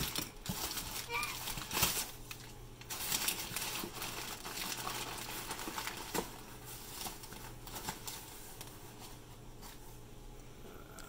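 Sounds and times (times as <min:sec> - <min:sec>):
packing paper rustling: 0:00.0 - 0:09.9.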